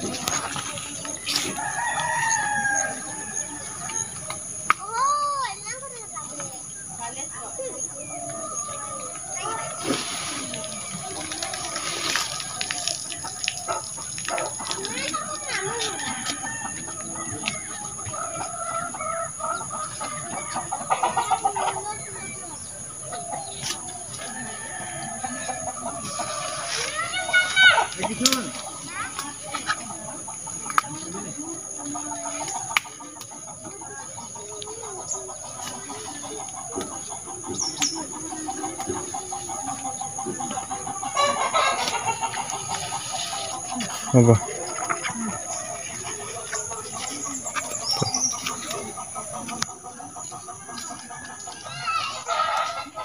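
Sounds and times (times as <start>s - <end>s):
chickens clucking: 0.0s - 53.0s.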